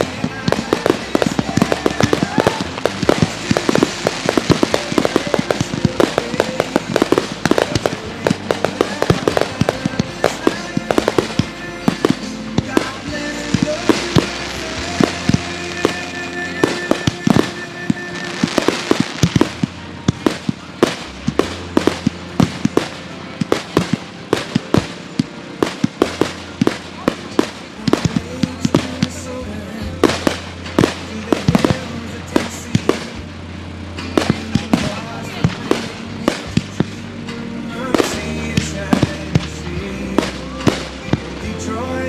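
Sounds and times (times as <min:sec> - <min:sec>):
fireworks banging: 0:00.0 - 0:42.0
recorded music: 0:00.0 - 0:42.0.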